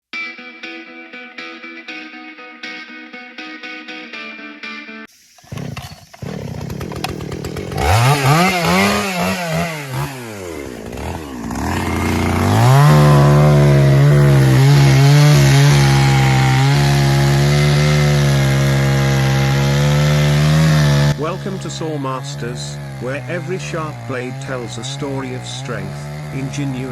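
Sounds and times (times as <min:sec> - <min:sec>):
chainsaw engine revving: 0:05.4 - 0:26.9.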